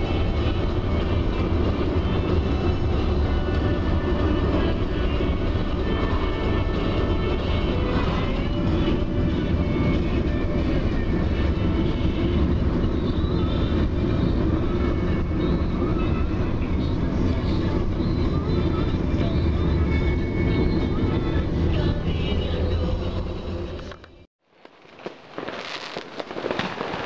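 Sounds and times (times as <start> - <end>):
car cabin road rumble: 0.0 - 25.4.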